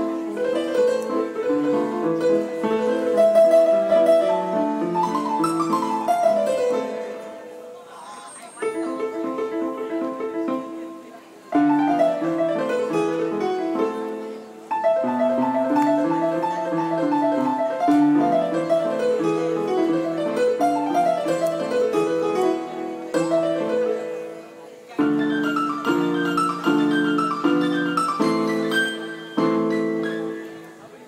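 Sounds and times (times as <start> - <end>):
electronic keyboard piano melody: 0.0 - 7.9, 8.6 - 31.0.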